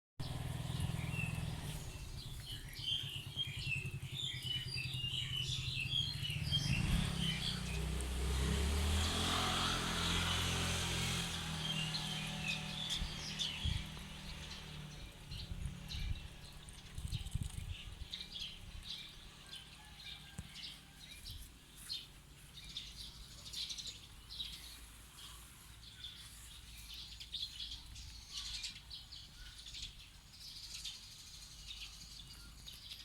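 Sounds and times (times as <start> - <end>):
small birds chirping: 0.2 - 33.0.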